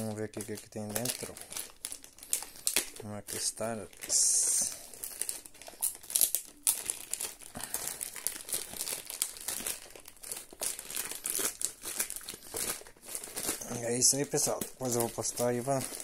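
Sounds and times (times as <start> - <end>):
plastic mailer bag crinkling: 0.0 - 16.0.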